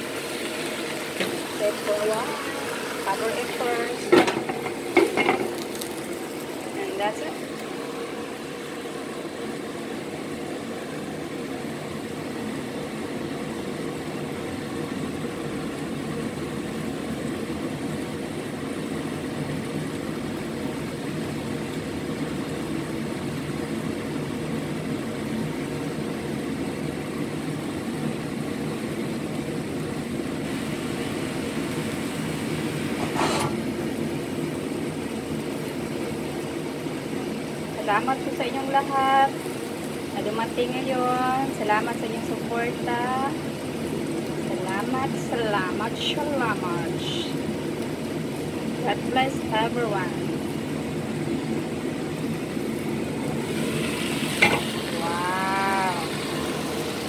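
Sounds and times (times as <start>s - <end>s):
food cooking under lid: 0.0s - 57.0s.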